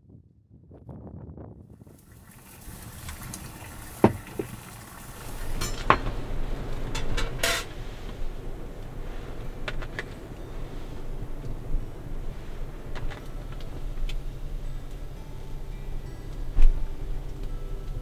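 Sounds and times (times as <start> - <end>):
steady low rumble: 1.6 - 18.0.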